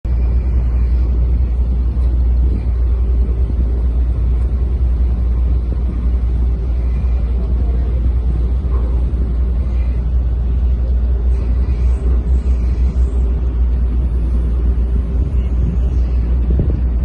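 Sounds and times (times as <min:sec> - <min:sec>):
ship engine rumbling: 0:00.0 - 0:17.0.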